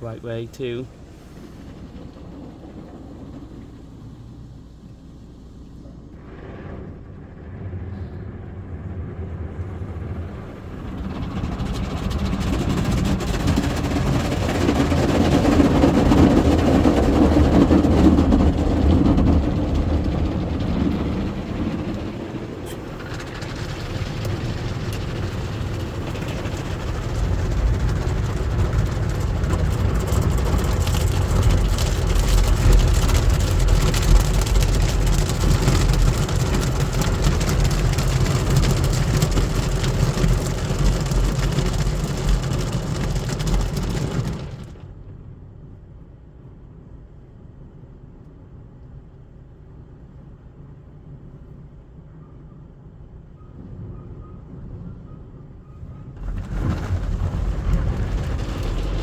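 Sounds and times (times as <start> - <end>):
deep rumble: 0.0 - 46.0, 53.6 - 59.0
car wash water rushing: 0.0 - 47.8, 55.8 - 59.0.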